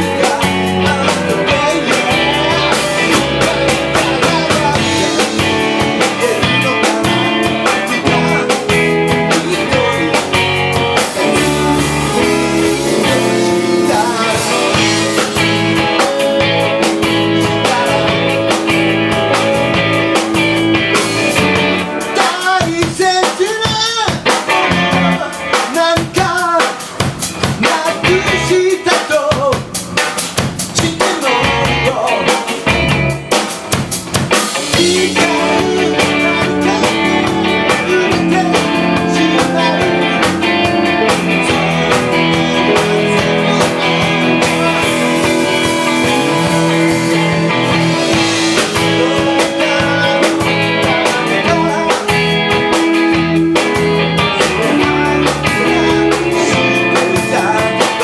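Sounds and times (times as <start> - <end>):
drum kit hits: 0.0 - 58.0
live band playing: 0.0 - 58.0.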